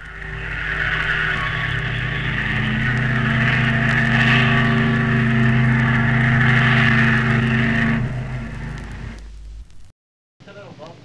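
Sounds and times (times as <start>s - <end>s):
low steady hum: 0.0s - 9.9s.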